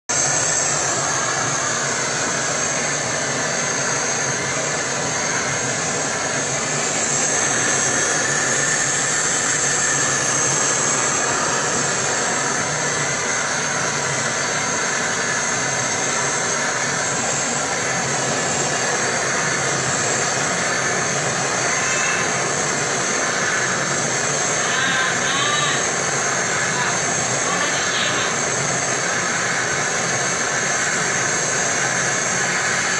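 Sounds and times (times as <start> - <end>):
hot-air gun blowing: 0.1 - 32.9.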